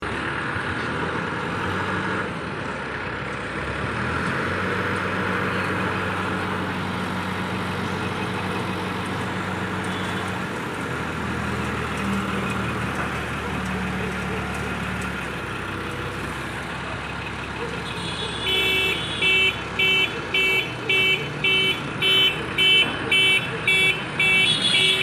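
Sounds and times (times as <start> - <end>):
crane engine humming: 2.5 - 25.0.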